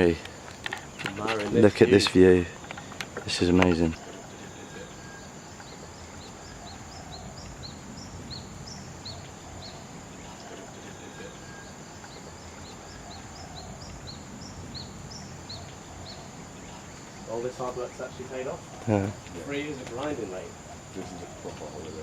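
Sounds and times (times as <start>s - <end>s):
high insect drone: 0.0s - 22.0s
low background hiss: 0.0s - 22.0s.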